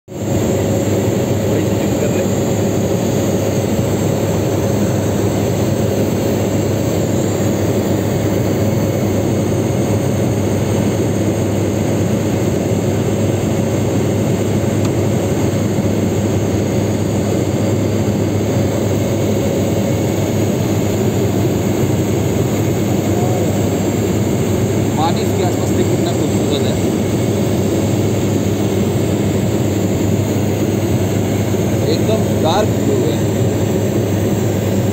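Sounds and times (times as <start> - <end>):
aircraft engine drone: 0.1 - 34.9.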